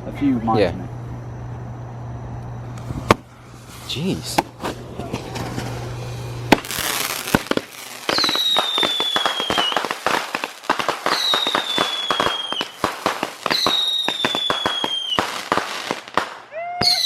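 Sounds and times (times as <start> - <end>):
falling firework whistles: 2.8 - 17.0
firework crackling and popping: 2.8 - 17.0
firework hissing rush: 2.8 - 17.0.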